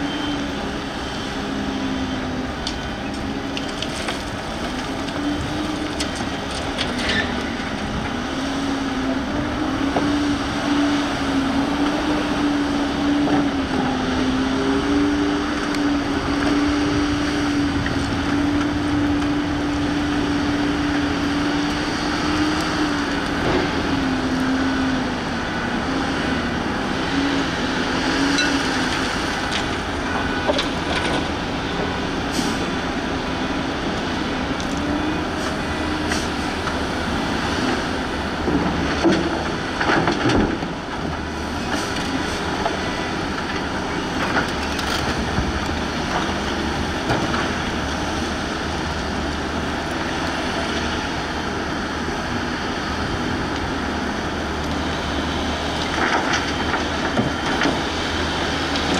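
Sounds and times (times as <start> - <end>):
excavator engine and hydraulics: 0.0 - 58.9.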